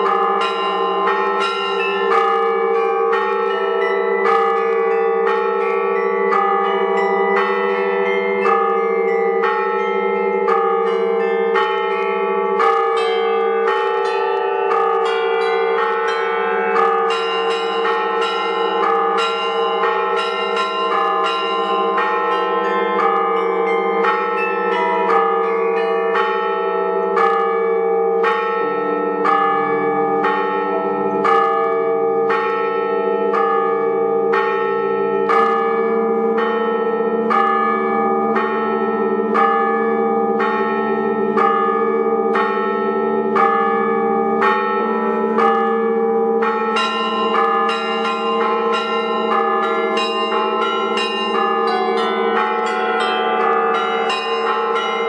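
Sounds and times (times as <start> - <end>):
deep bell ringing: 0.0 - 55.0
large bells ringing: 0.0 - 55.0.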